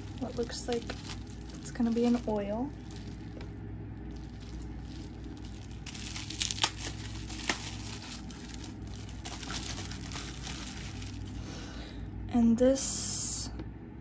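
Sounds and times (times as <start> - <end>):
bubble wrap crinkling: 0.0 - 11.7.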